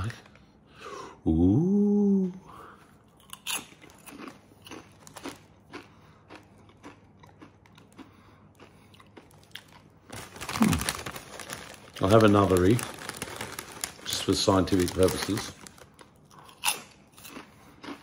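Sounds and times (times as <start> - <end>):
potato chips crunching: 3.1 - 18.0.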